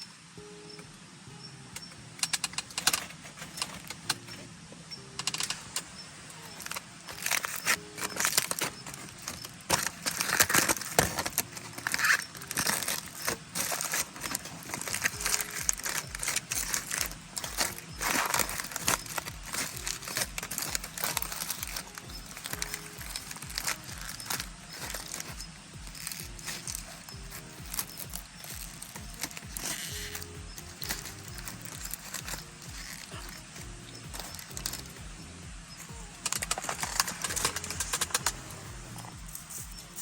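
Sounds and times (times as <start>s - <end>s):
low steady beat: 0.0s - 40.0s
soft background music: 0.0s - 40.0s
scattered clicks: 1.8s - 40.0s
crinkling and rustling handling: 2.2s - 40.0s.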